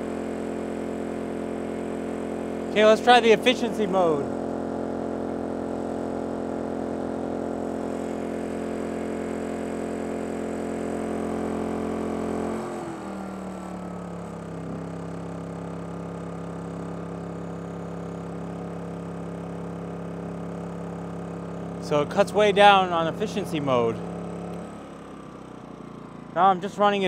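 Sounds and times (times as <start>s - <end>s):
generator engine running: 0.0s - 27.0s.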